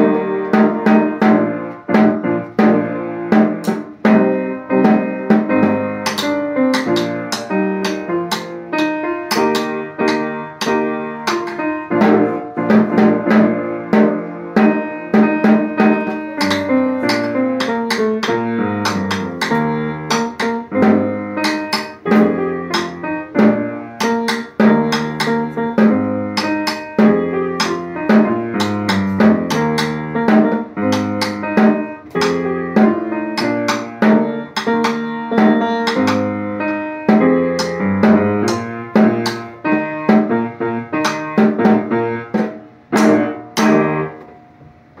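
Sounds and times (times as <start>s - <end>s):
snare drum steady rhythm: 0.0s - 43.8s
piano-like backing music: 0.0s - 45.0s.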